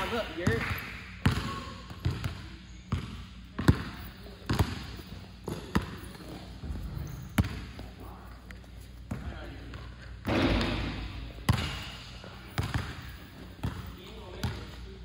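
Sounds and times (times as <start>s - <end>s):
basketball bouncing on gym floor: 0.0s - 7.9s, 9.0s - 14.8s.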